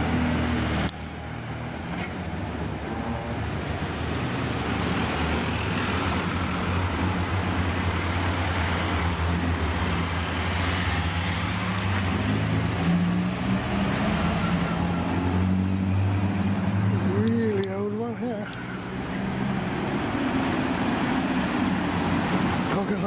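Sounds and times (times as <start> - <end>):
cars driving slowly past: 0.0 - 23.0.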